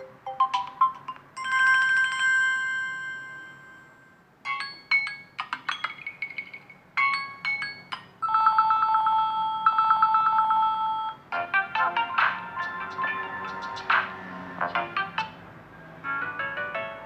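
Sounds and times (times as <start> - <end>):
quick ringtone melody: 0.0 - 13.8
chiming ringtone melody: 0.0 - 13.9.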